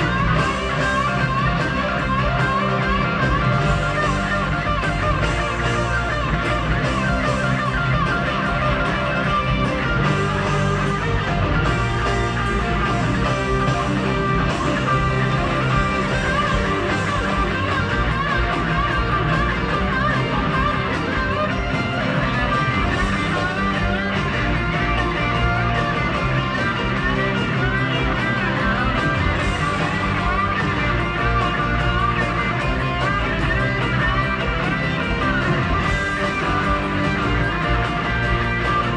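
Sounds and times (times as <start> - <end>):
electric guitar lead: 0.0 - 38.9
rock band with bass and drums: 0.0 - 38.9.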